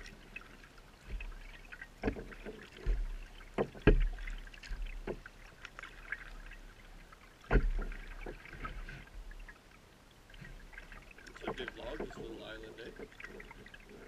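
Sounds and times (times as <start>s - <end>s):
paddle strokes splashing water: 0.0s - 14.0s.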